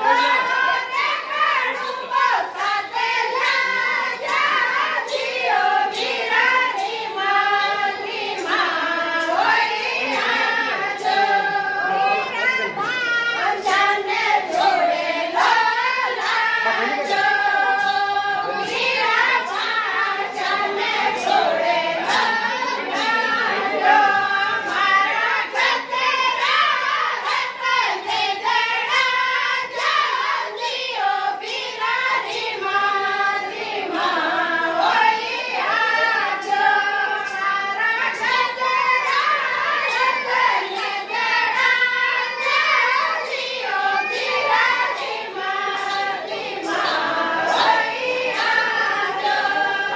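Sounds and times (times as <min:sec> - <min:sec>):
hand claps: 0:00.0 - 0:49.9
women singing folk song: 0:00.0 - 0:49.9.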